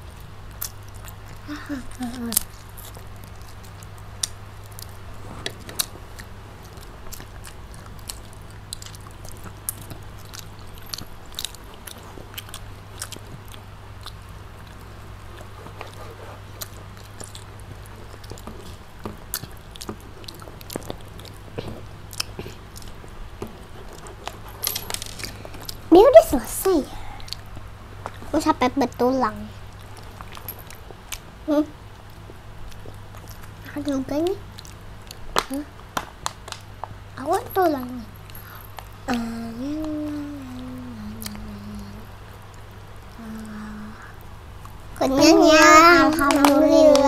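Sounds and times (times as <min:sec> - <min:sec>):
children chewing crunchy food: 0:00.0 - 0:28.5, 0:29.5 - 0:31.4, 0:32.0 - 0:37.5, 0:38.1 - 0:47.0
steady low hum: 0:00.0 - 0:47.0.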